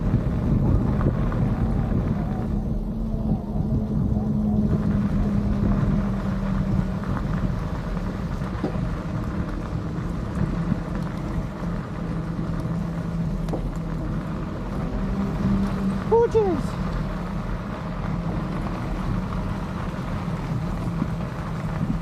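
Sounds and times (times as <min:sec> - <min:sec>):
constant rumble: 0:00.0 - 0:22.0
low motor hum: 0:00.0 - 0:22.0.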